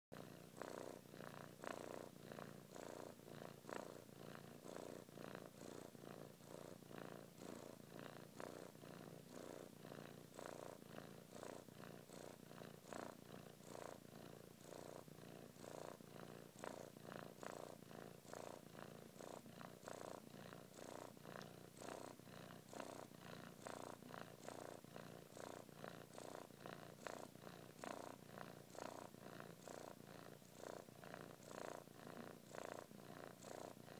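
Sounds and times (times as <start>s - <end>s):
kitten purring: 0.1s - 33.9s.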